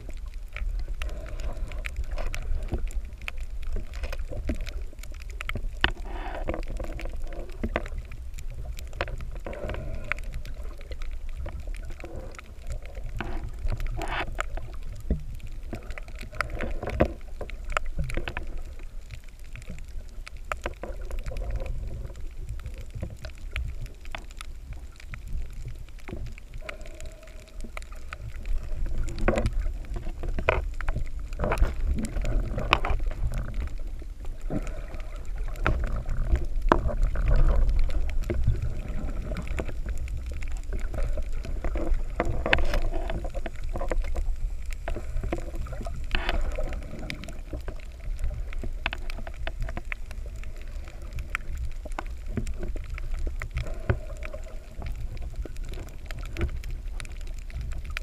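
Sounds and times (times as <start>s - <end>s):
underwater rumble of moving water: 0.0s - 58.0s.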